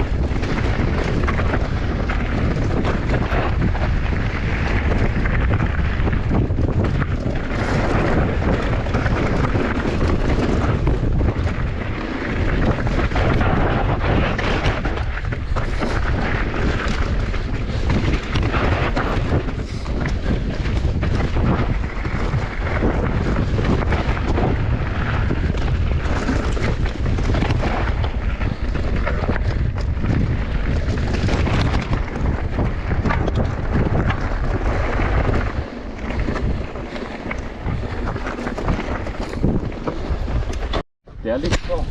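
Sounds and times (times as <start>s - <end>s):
bike knocks and rattles: 0.0s - 41.9s
tyres on dirt and rock: 0.0s - 41.9s
wind buffeting microphone: 0.0s - 41.9s.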